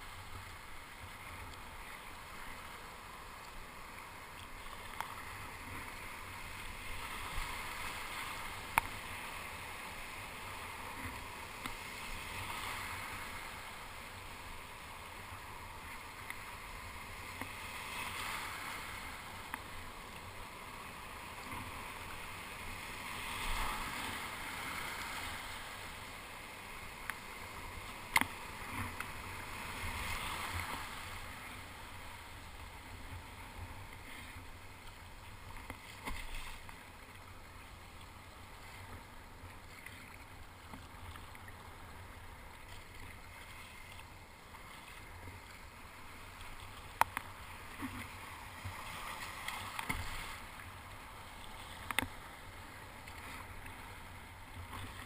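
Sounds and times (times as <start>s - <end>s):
surf foaming and splashing: 0.0s - 55.0s.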